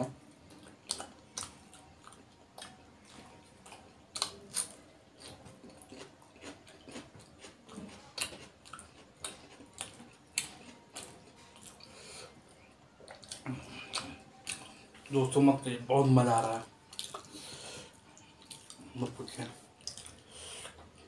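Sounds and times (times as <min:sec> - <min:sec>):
wet chewing: 0:00.5 - 0:15.1, 0:16.9 - 0:20.9.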